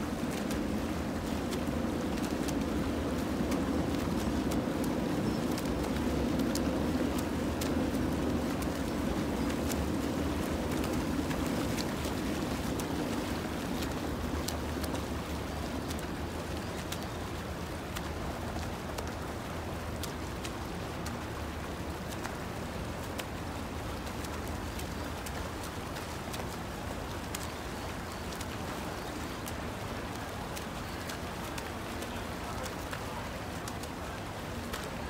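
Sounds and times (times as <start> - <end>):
swimmers splashing water: 0.0 - 35.0.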